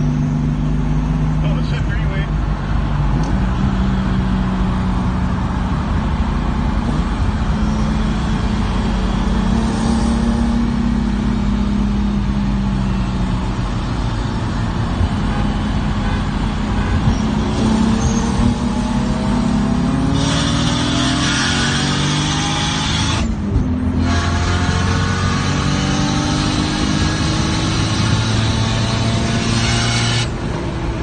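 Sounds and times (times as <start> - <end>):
car engine accelerating: 0.0 - 31.0
road and tyre rumble: 0.0 - 31.0.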